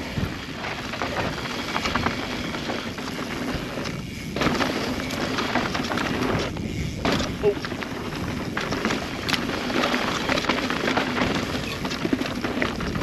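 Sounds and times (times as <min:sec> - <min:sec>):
bike clicks and rattles: 0:00.0 - 0:13.0
bike tyres rolling on dirt: 0:00.0 - 0:13.0
wind rushing on microphone: 0:00.0 - 0:13.0.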